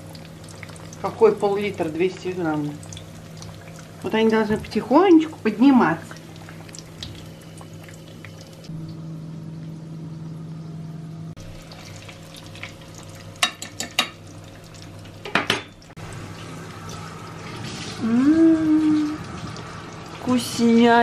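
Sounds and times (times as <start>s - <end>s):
oil sizzling in frying pan: 0.0s - 8.9s, 11.4s - 21.0s.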